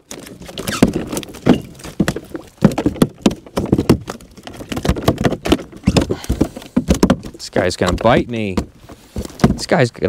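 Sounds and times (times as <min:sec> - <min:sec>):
knocks clicks and rattles: 0:00.0 - 0:10.0.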